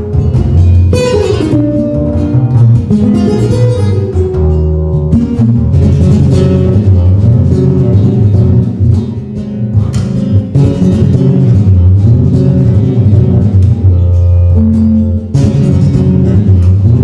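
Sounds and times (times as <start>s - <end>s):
deep bass line: 0.0s - 17.0s
plucked acoustic guitar: 0.0s - 17.0s.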